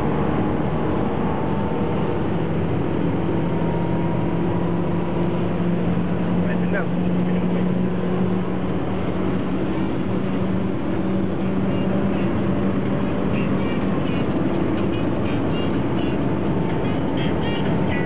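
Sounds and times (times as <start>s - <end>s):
car engine running: 0.0s - 18.0s
tyre and road noise: 0.0s - 18.0s.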